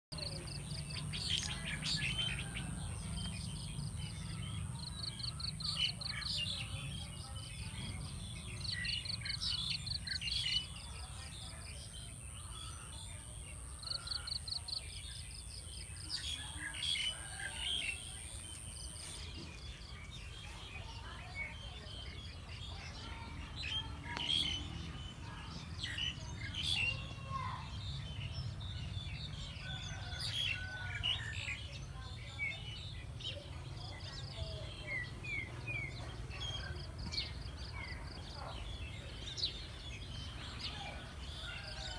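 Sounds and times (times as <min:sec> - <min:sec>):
small birds chirping: 0:00.1 - 0:41.9.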